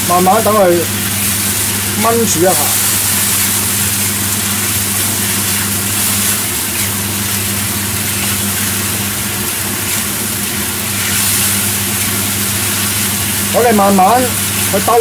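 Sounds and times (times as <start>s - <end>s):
food sizzling in a wok: 0.0s - 15.0s
low appliance hum: 0.0s - 15.0s.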